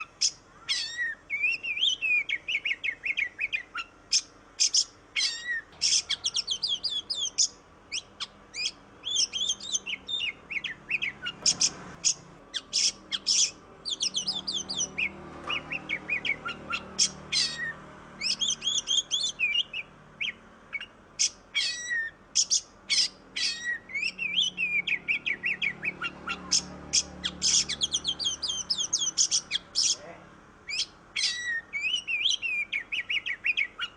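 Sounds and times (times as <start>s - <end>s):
magpie-robin singing: 0.0s - 33.9s.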